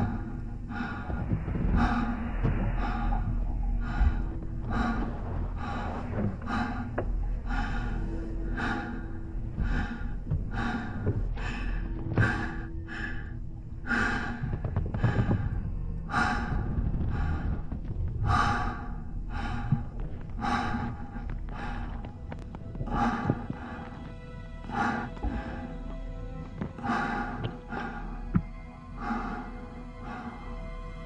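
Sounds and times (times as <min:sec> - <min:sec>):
person breathing hard: 0:00.0 - 0:30.7
steady low rumble: 0:00.0 - 0:31.0.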